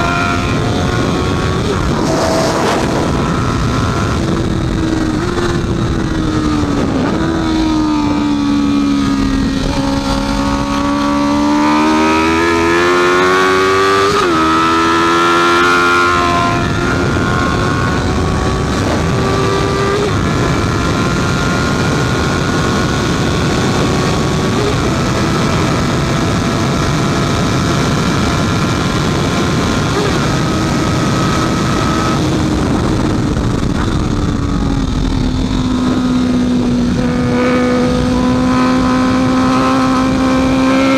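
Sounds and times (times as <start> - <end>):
motorcycle engine revving: 0.0 - 40.9
steady rush of noise: 0.0 - 40.9.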